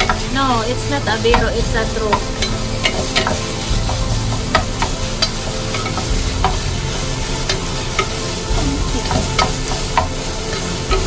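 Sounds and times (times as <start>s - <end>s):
meat sizzling: 0.0s - 11.0s
wooden spatula scraping pot: 0.0s - 11.0s.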